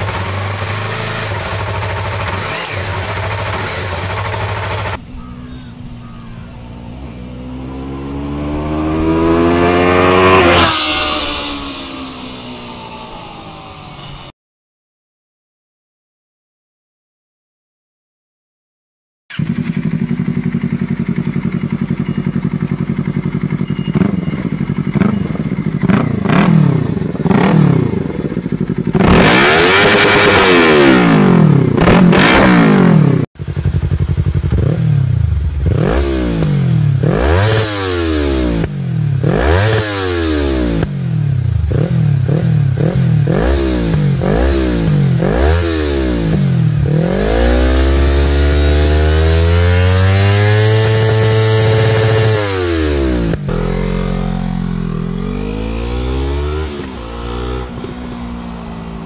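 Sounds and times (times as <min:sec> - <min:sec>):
motorcycle engine revving: 0:00.0 - 0:14.3, 0:19.3 - 0:59.0
second motorcycle revving: 0:00.0 - 0:14.3, 0:19.3 - 0:59.0.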